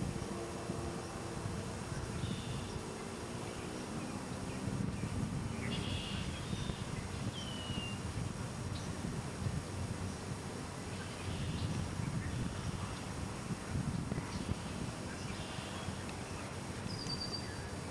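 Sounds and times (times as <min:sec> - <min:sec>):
low outdoor rumble: 0:00.0 - 0:17.9.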